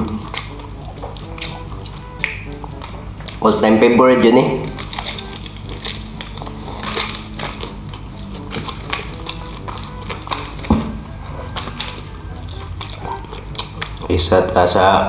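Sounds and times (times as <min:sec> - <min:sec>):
crunching fried chicken: 0:00.0 - 0:15.0.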